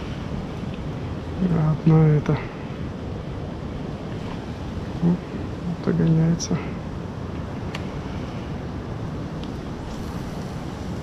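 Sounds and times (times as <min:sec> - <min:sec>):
surf at shoreline: 0:00.0 - 0:11.0
wind on microphone: 0:00.0 - 0:11.0.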